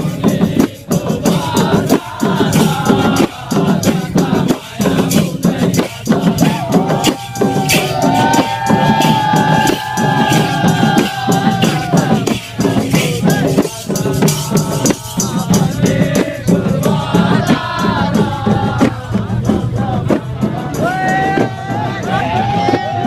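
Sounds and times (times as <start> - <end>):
steady percussion beat: 0.0 - 23.0.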